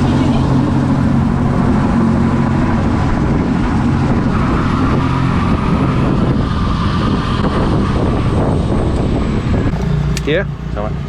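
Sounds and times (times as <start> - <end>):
engine low hum: 0.0 - 11.0
faint engine whine: 0.0 - 11.0.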